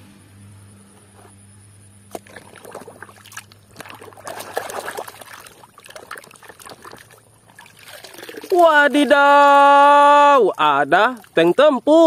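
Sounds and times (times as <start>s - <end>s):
water sloshing: 2.1s - 11.8s.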